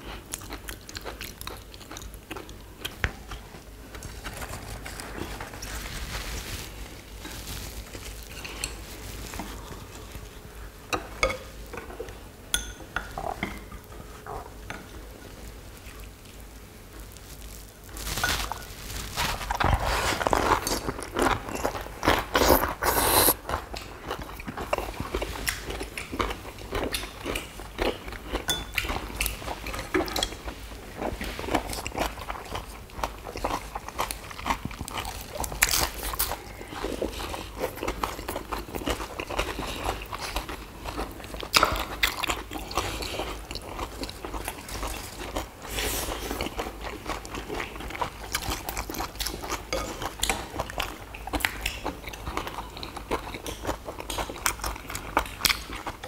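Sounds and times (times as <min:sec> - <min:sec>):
people chewing leafy wraps: 0:00.0 - 0:10.8, 0:13.7 - 0:56.0.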